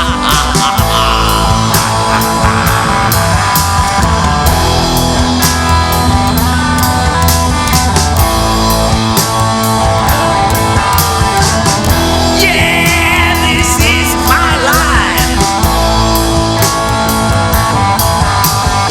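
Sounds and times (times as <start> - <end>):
drum kit steady beat: 0.0 - 18.9
guitar: 0.0 - 18.9.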